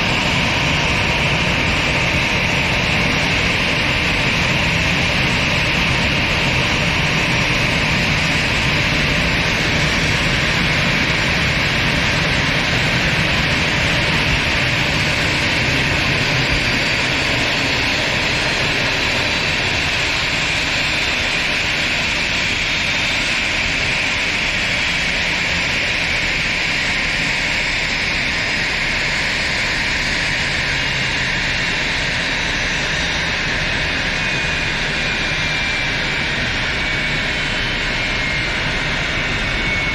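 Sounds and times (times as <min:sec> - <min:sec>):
aircraft turbine rushing: 0:00.0 - 0:39.9.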